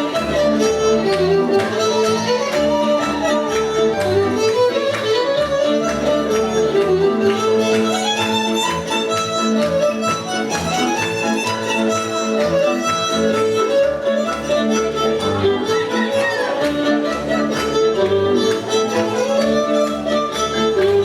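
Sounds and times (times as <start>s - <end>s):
violin melody: 0.0s - 21.0s.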